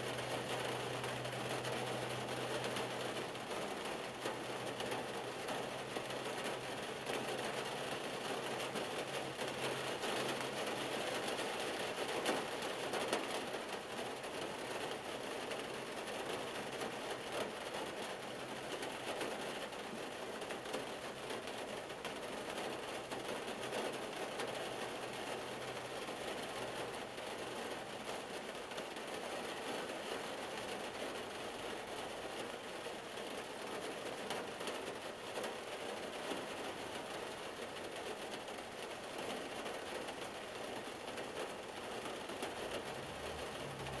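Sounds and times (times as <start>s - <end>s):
rain pattering on car roof: 0.0s - 44.0s.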